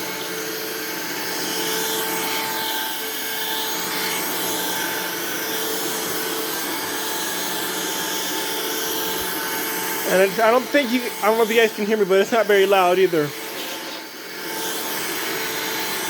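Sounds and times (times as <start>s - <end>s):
cordless vacuum running: 0.0s - 16.0s.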